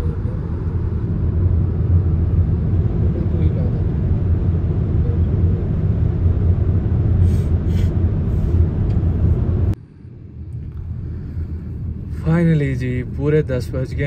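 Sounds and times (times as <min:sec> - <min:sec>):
road and tyre noise in car cabin: 0:00.0 - 0:14.0.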